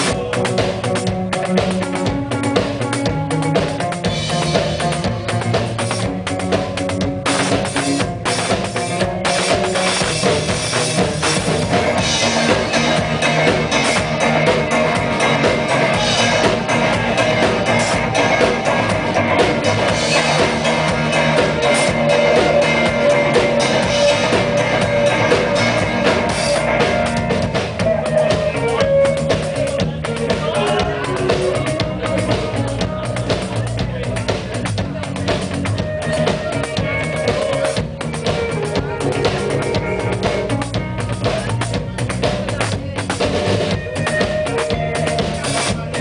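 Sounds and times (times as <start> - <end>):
live rock band playing: 0.0 - 46.0.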